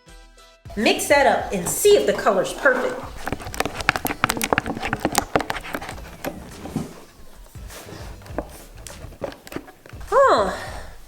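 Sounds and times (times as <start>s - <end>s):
utensil scraping bowl: 0.7s - 10.1s.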